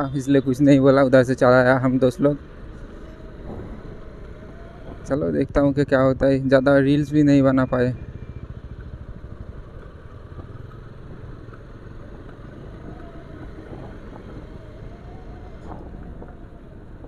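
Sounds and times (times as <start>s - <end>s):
wind and road noise: 0.0s - 17.0s
motorcycle engine running: 2.4s - 17.0s.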